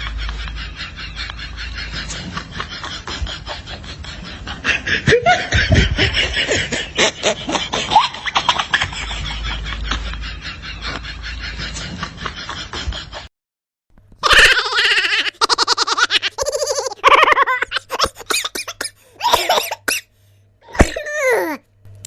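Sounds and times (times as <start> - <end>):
snickering laughter: 0.0 - 13.3, 14.2 - 20.1.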